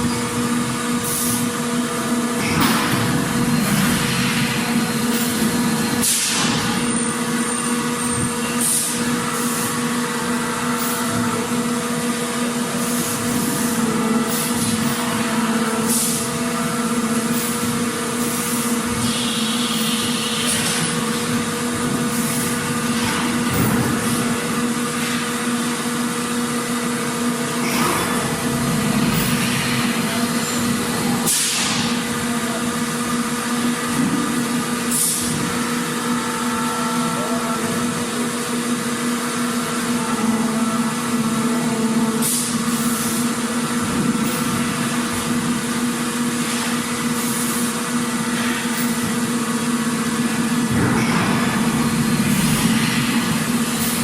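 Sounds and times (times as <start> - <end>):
factory machinery humming: 0.0 - 54.0.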